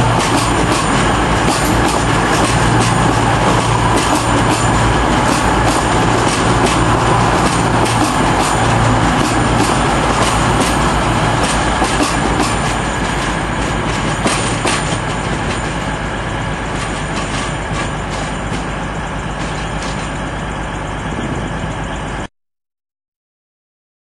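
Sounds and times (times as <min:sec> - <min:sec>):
diesel train engine: 0:00.0 - 0:22.3
rail noise: 0:00.0 - 0:22.3.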